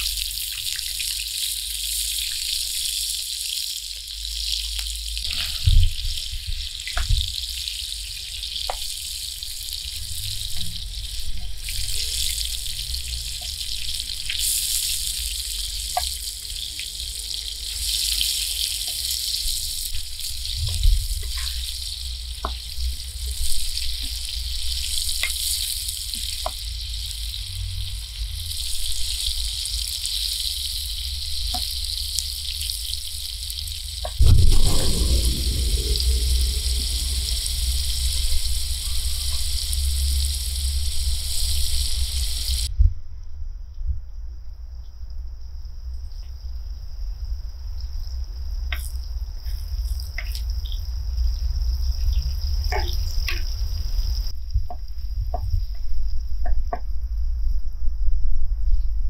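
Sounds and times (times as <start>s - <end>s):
potatoes sizzling in oil: 0.0s - 42.7s, 48.6s - 55.8s.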